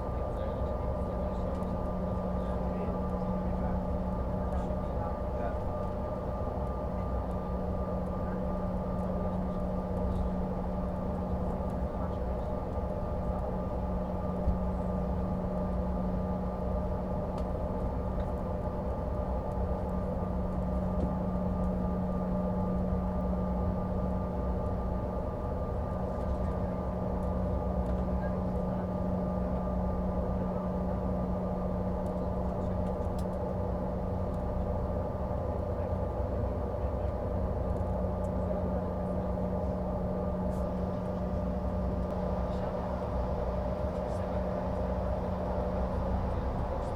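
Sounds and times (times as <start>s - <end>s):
jet engines humming in cabin: 0.0s - 46.9s
steady engine whine: 0.0s - 46.9s.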